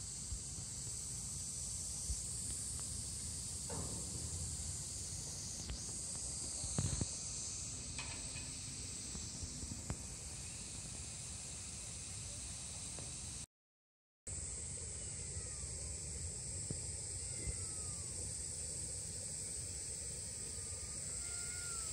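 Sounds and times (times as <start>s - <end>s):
insect chorus hiss: 0.0s - 13.5s, 14.3s - 21.9s.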